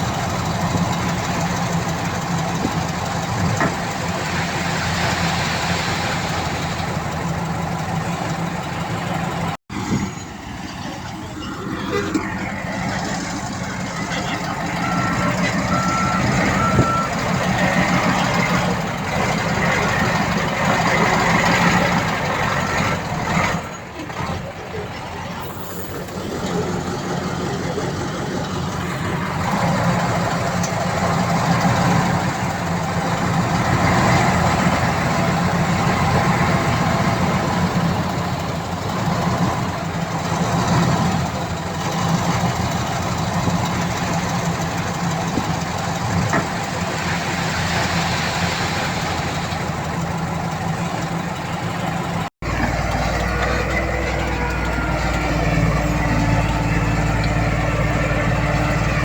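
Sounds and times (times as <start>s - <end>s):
heavy machinery diesel engine rumble: 0.0s - 59.0s.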